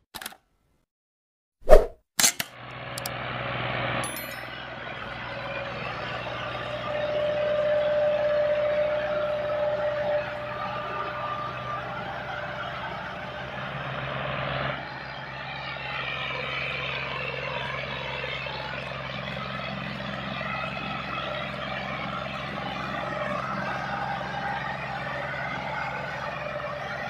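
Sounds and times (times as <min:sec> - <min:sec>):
tractor diesel engines droning: 0:02.3 - 0:27.0.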